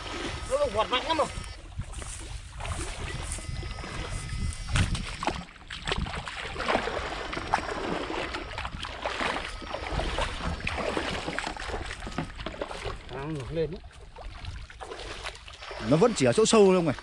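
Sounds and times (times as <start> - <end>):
legs swishing through water: 0.0 - 17.0
water sloshing and splashing: 0.0 - 17.0.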